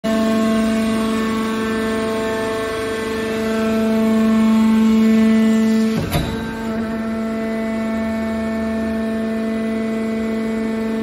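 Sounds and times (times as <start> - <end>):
hydraulic pump motor humming: 0.1 - 11.0.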